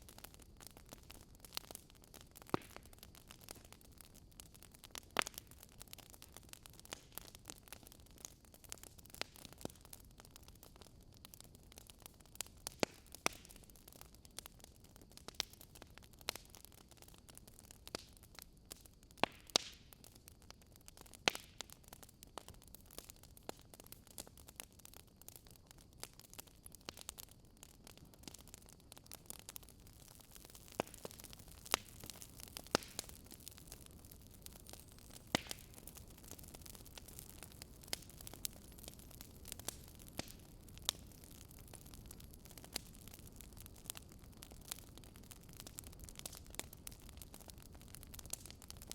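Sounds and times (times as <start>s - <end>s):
low steady hiss: 0.0s - 48.9s
wood fire crackling and popping: 0.0s - 48.9s.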